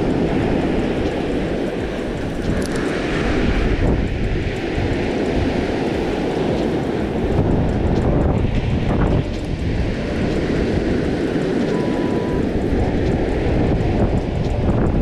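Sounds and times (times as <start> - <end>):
surf breaking: 0.0 - 15.0
wind buffeting microphone: 0.0 - 15.0.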